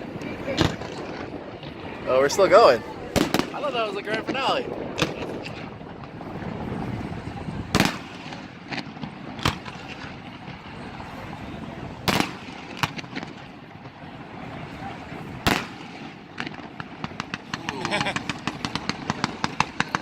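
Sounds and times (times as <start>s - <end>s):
fireworks bursting with loud bangs: 0.0s - 2.1s, 3.0s - 20.0s
fireworks cracks: 0.0s - 2.1s, 3.0s - 20.0s
background rumble: 0.0s - 20.0s.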